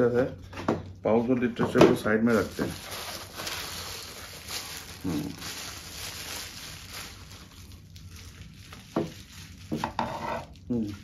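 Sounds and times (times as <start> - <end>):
bubble wrap crinkling: 2.0 - 11.0.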